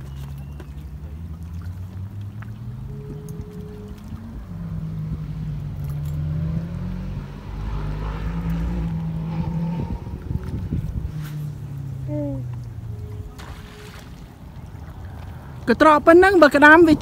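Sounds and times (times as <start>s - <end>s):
low motor drone: 0.0s - 17.0s.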